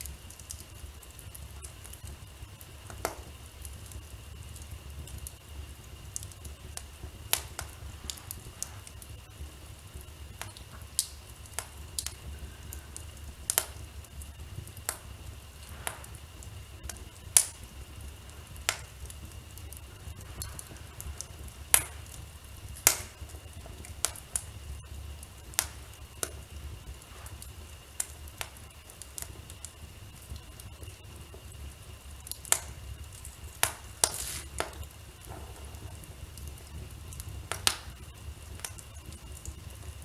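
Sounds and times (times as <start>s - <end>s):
low rumble of flames: 0.0s - 40.0s
wood fire crackling and popping: 0.0s - 40.0s.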